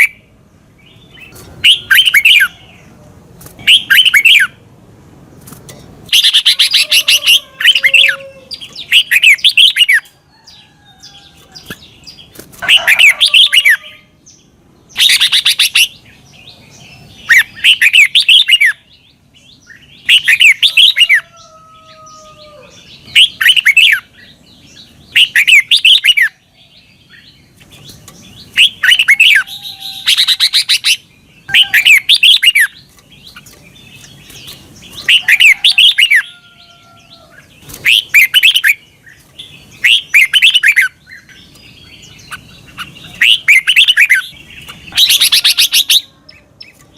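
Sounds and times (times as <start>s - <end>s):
bird warbling song: 0.0s - 4.6s, 5.3s - 46.9s.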